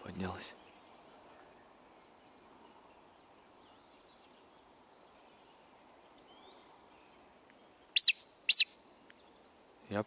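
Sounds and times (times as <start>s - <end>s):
faint bird chirps: 0.4s - 9.7s.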